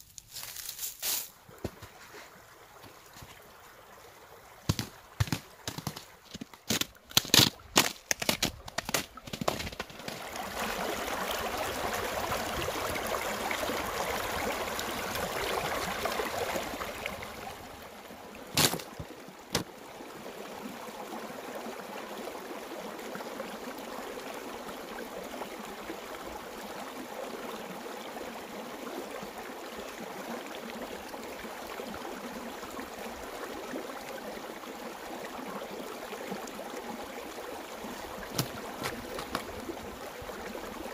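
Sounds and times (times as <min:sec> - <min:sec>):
stream gurgling over rocks: 0:01.4 - 0:40.9.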